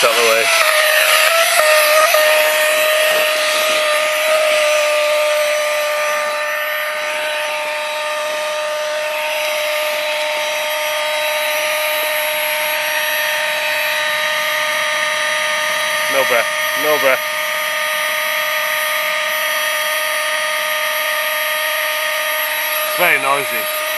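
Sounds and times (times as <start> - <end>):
electric air pump motor hum: 0.0 - 23.9.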